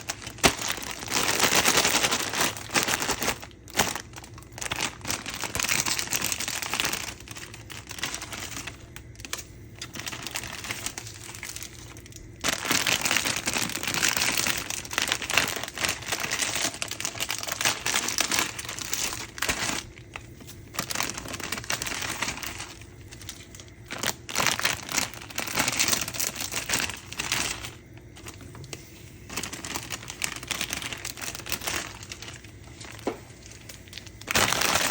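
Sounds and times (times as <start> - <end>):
packaging crinkling: 0.0 - 34.9.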